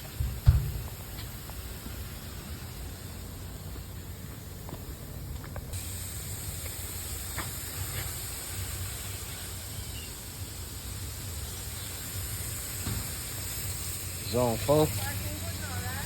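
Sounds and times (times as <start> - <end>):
lawn sprinklers spraying water: 0.0 - 16.0.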